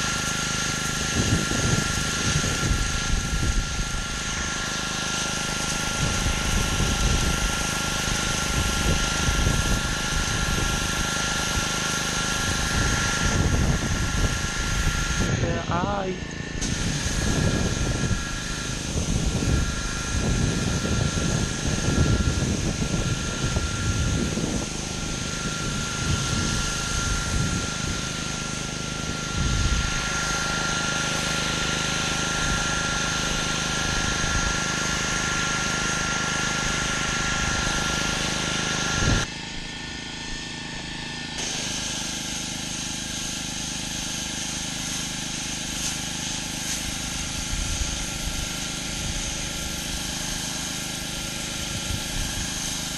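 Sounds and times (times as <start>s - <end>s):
high-pressure water spray hiss: 0.0s - 15.6s, 16.6s - 39.2s, 41.4s - 52.9s
pressure washer engine running: 0.0s - 52.9s.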